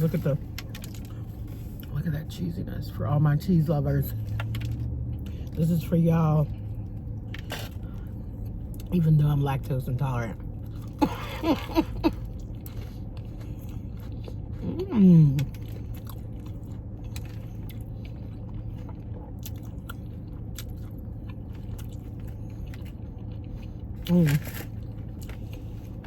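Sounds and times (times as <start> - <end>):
chewing and crunching food: 0.0 - 2.6, 3.4 - 26.0
steady low hum: 0.0 - 26.0.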